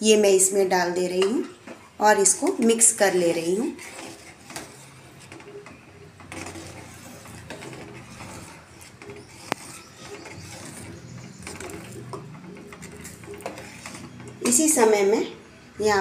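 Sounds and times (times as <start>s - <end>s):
spoon scraping metal pot: 0.1s - 16.0s.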